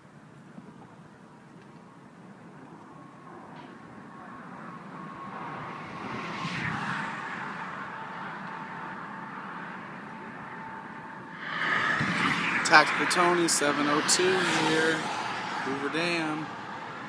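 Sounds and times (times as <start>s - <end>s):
faint steady whine: 0.0s - 17.0s
vehicle passing by: 2.8s - 17.0s.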